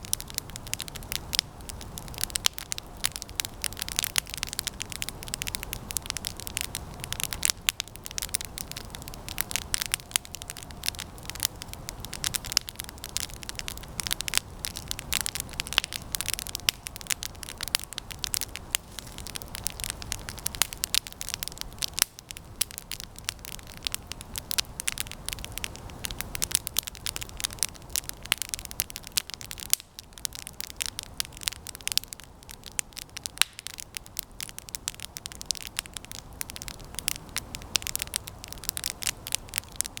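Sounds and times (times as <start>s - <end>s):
campfire crackling: 0.0s - 40.0s
flames rushing: 0.0s - 40.0s.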